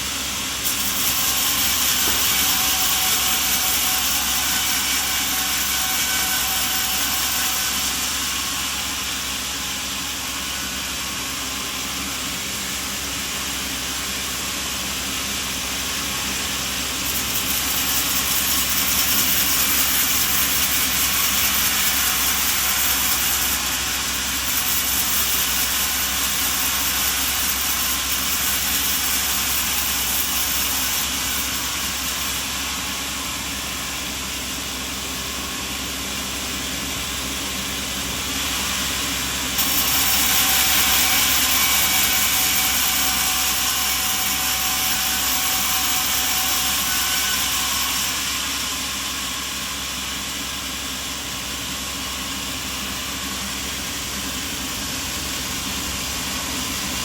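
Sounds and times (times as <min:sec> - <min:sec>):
sawmill machinery whirring: 0:00.0 - 0:57.0.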